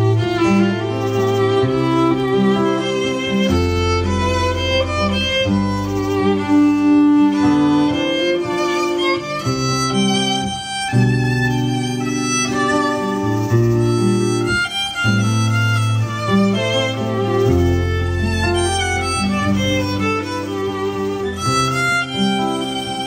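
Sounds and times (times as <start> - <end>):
fiddle playing bowed melody: 0.0 - 23.0.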